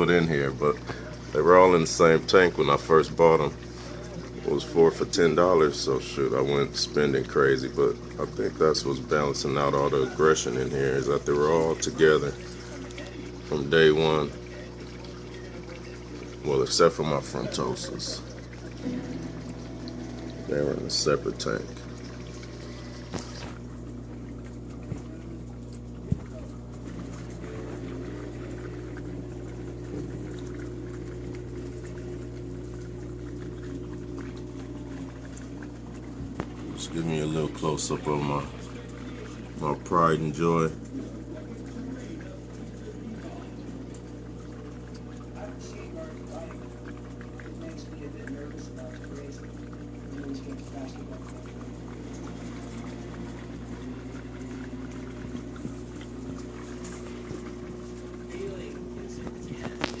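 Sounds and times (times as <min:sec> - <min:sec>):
aquarium filter humming: 0:00.0 - 1:00.0
water bubbling and trickling: 0:00.0 - 1:00.0.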